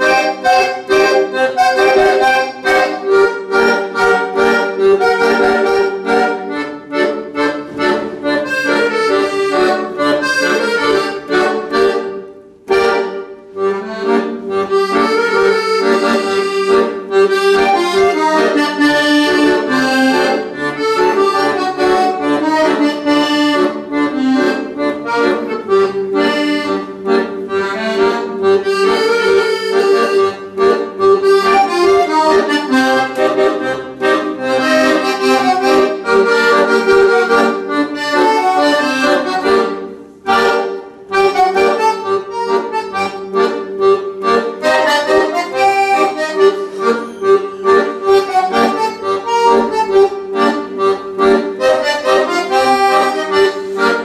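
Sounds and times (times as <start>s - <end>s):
solo accordion tune: 0.0s - 54.0s.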